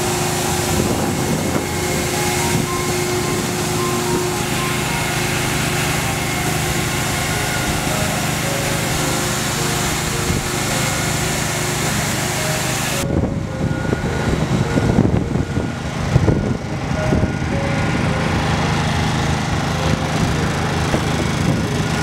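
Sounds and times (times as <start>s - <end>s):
wind buffeting microphone: 0.0s - 12.2s, 12.9s - 22.0s
motorized sprayer hissing: 0.0s - 22.0s.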